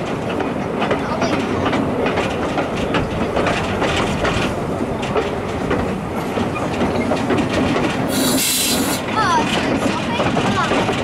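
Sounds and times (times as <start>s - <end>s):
train rumble: 0.0s - 11.0s
wheels clattering over rails: 0.0s - 11.0s.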